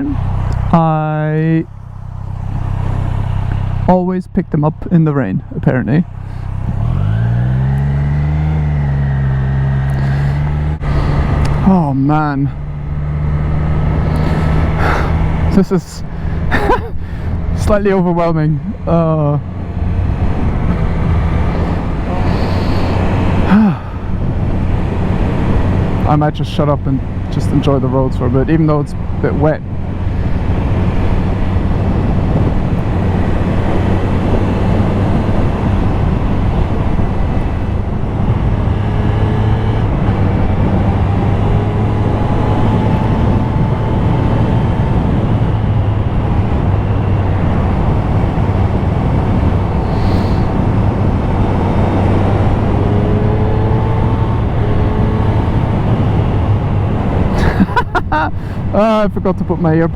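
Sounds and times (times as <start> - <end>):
motorcycle engine running: 0.0 - 59.0
wind and road noise: 0.0 - 59.9.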